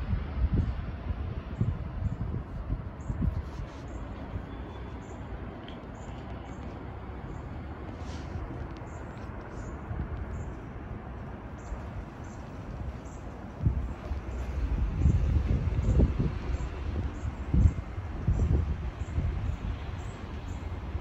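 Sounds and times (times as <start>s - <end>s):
distant aircraft rumble: 0.0s - 21.0s.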